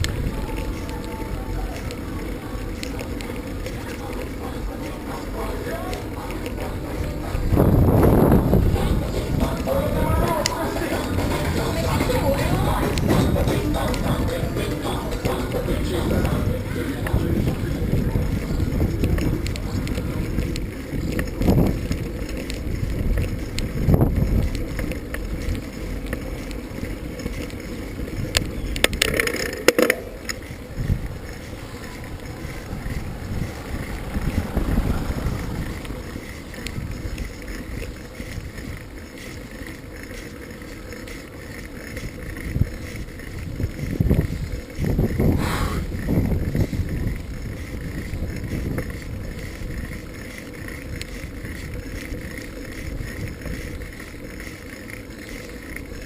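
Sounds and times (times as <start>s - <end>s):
vehicle rumble: 0.0s - 56.0s
wind buffeting microphone: 0.0s - 56.0s.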